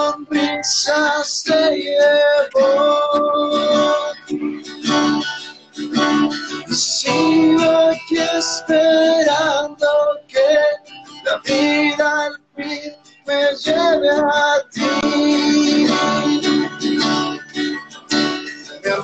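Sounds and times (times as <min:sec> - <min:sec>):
person singing: 0:00.0 - 0:19.0
strummed acoustic guitar: 0:00.0 - 0:19.0.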